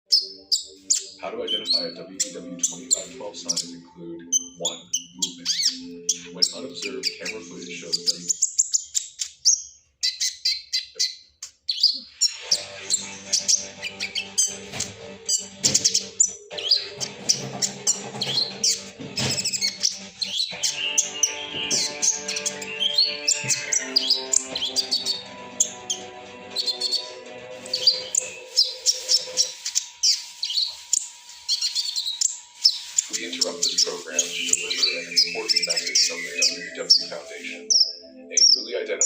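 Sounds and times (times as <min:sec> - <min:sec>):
sunbird rapid high chirps: 0:00.1 - 0:38.6.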